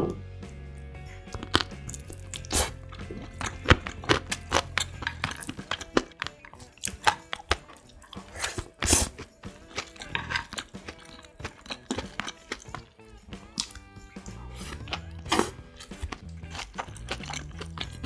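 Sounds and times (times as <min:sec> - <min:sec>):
person chewing and crunching: 0:01.2 - 0:18.0.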